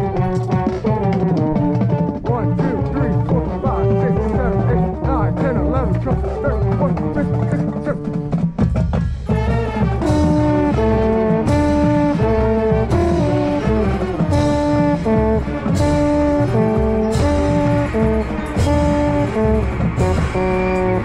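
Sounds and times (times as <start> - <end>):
drum hits: 0.0 - 21.0
marching band brass playing: 0.0 - 21.0.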